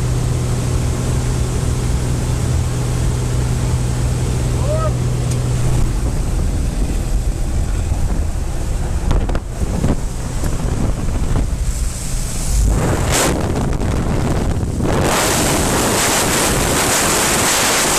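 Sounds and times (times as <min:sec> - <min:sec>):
plane engine drone: 0:00.0 - 0:17.9
wind rushing over microphone: 0:00.0 - 0:17.9.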